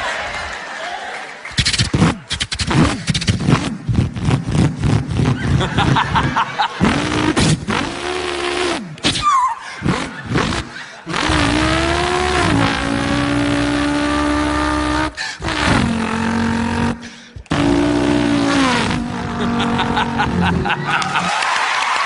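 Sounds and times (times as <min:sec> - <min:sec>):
man imitating engine revving: 0:02.7 - 0:21.3.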